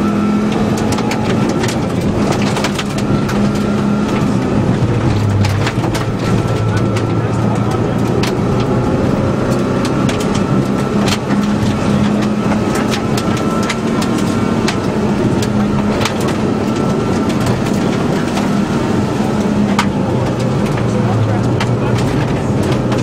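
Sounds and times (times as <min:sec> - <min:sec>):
car engine running hard: 0:00.0 - 0:23.0
gravel striking car: 0:00.5 - 0:23.0.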